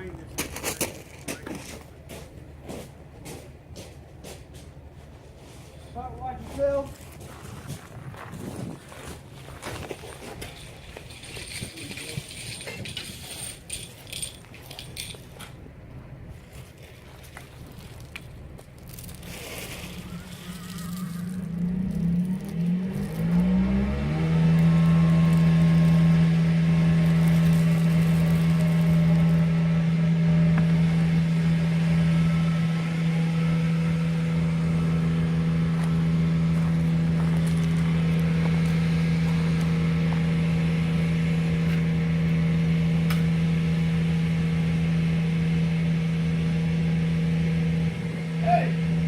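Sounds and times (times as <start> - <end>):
vacuum pump truck engine: 0.0 - 49.0.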